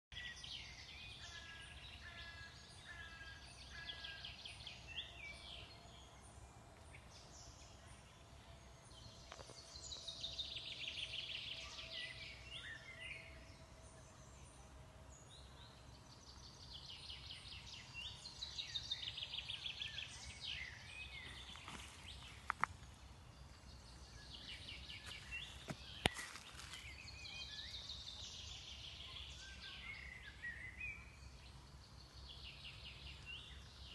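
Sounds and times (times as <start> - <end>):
songbirds singing: 0.1 - 33.9.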